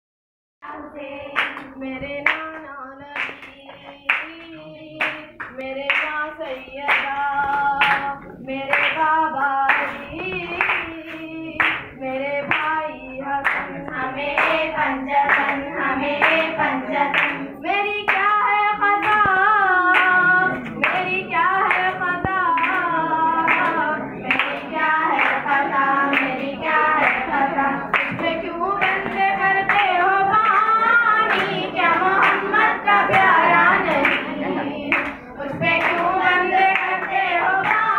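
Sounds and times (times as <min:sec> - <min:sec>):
hands clapping in rhythm: 0:00.6 - 0:37.9
woman singing: 0:00.6 - 0:37.9.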